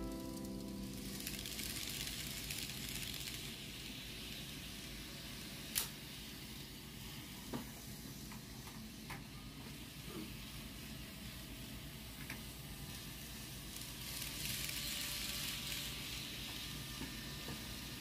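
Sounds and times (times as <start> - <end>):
model train wheels and motor hiss: 0.0 - 18.0.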